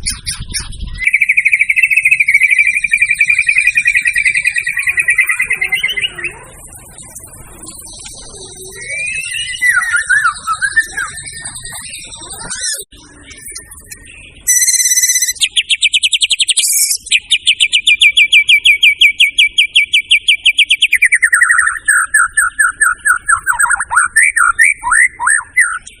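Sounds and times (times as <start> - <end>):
songbird trilling and swooping: 0.0 - 26.0.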